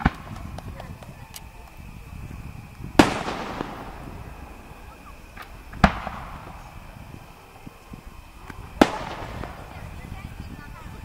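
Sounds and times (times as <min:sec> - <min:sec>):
faint firework pops: 0:00.0 - 0:11.0
firework bang echoing: 0:00.0 - 0:11.0.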